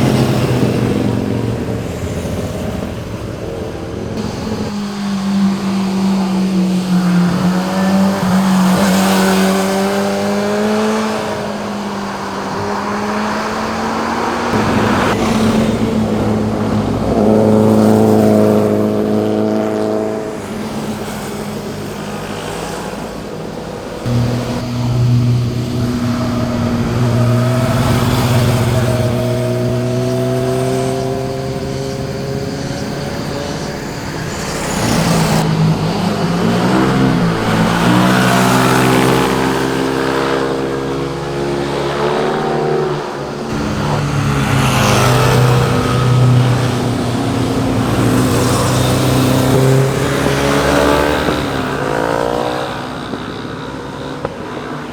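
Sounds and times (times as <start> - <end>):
motorcycles riding past: 0.0 - 54.9.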